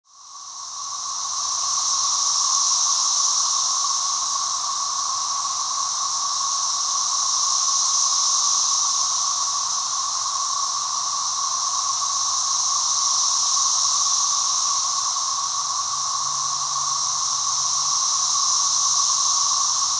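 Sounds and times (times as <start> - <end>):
cicadas droning: 0.0 - 19.9.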